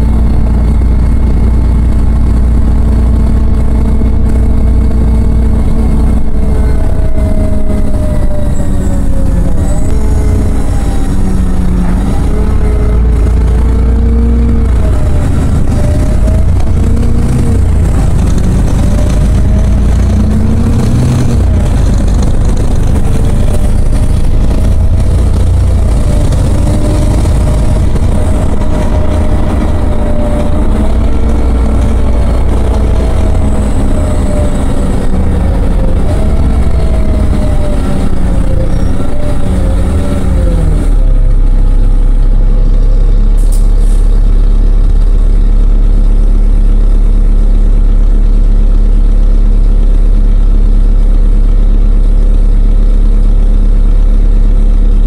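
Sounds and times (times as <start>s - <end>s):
bus engine and drivetrain whine: 0.0s - 55.0s
engine idling: 0.0s - 55.0s.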